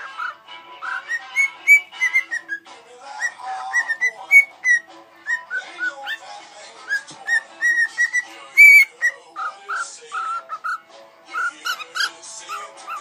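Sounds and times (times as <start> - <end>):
bird whistling and chirping: 0.0 - 13.0
music: 0.0 - 13.0.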